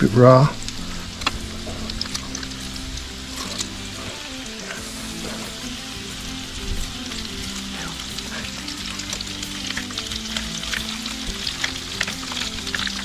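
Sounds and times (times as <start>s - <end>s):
potatoes sizzling in oil: 1.0s - 13.0s.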